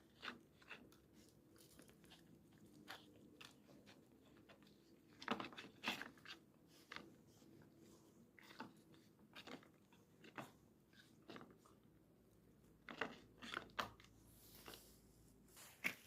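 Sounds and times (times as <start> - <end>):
dog chewing and crunching food: 0.0 - 14.9.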